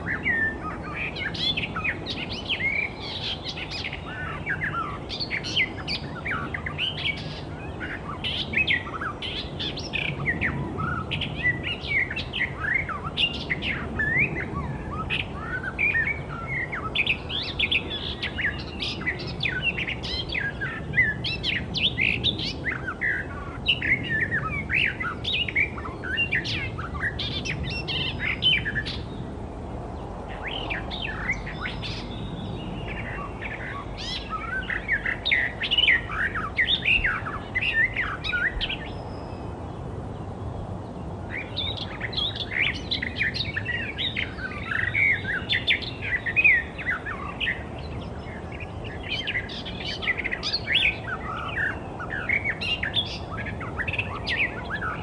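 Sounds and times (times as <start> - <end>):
faint background hiss: 0.0 - 55.0
warbler singing: 0.0 - 55.0.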